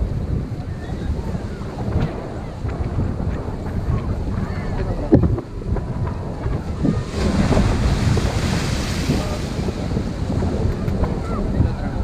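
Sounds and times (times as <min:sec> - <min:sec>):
waves breaking over rocks: 0:00.0 - 0:12.0
wind buffeting microphone: 0:00.0 - 0:12.0.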